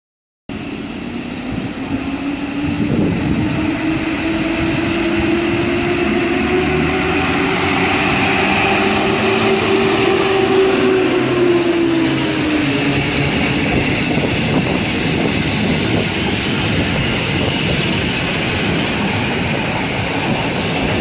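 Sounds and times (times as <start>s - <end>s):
electric locomotive whine and rumble: 0.5s - 21.0s.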